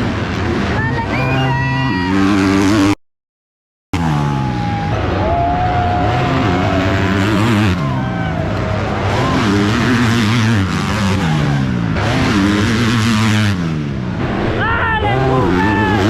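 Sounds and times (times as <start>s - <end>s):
motocross bike engines revving: 0.0s - 3.0s, 4.0s - 16.0s.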